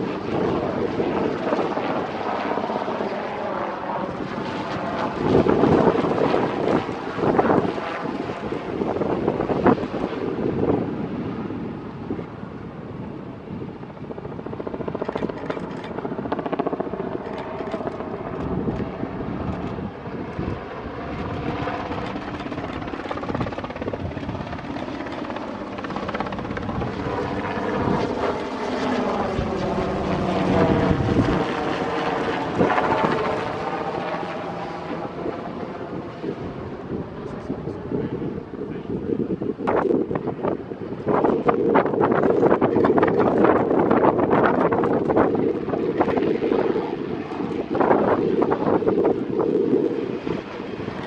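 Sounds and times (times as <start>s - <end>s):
helicopter turbine and rotor: 0.0s - 51.0s.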